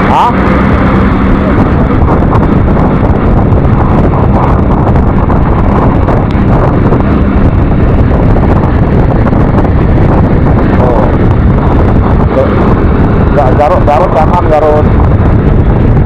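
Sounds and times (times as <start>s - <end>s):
road noise: 0.0s - 16.0s
wind rushing over microphone: 0.0s - 16.0s.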